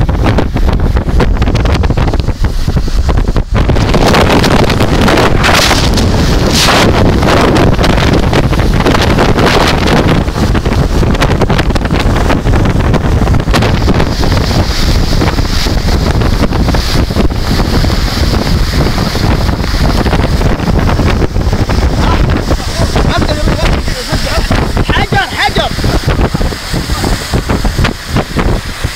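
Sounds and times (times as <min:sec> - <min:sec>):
hailstones hitting: 0:00.0 - 0:28.9
wind buffeting microphone: 0:00.0 - 0:28.9.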